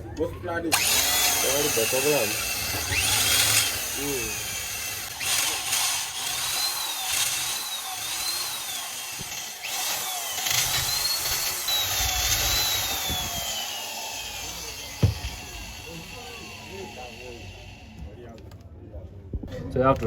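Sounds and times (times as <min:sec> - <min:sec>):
electric drill whining: 0:00.7 - 0:18.2.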